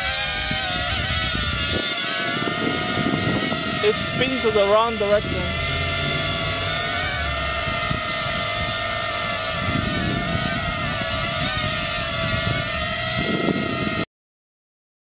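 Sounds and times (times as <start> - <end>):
quadcopter propellers whining: 0.0 - 14.1.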